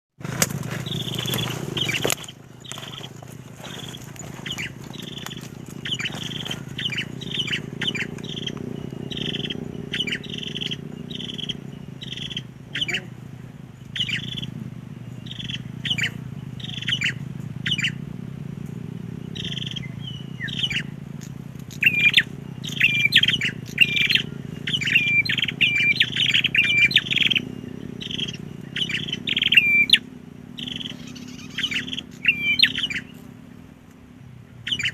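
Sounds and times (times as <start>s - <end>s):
low hum: 0.2s - 34.8s
bird chirping rapidly: 0.8s - 18.0s, 19.1s - 33.4s, 34.5s - 34.9s.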